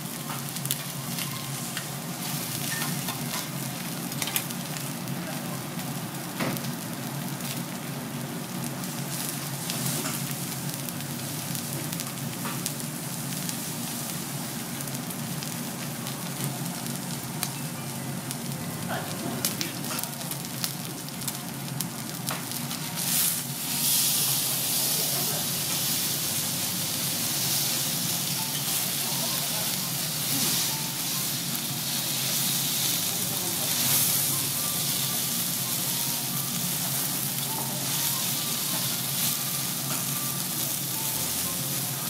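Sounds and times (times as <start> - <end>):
steak sizzling on a griddle: 0.0 - 42.0.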